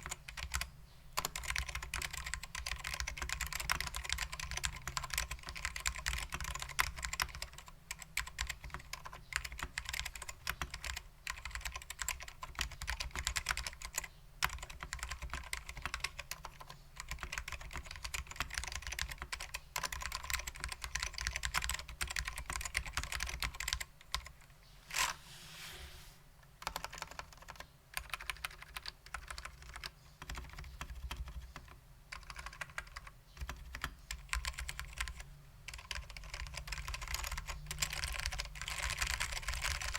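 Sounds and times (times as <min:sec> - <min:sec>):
mechanical keyboard typing: 0:00.0 - 0:24.4, 0:26.6 - 0:39.9.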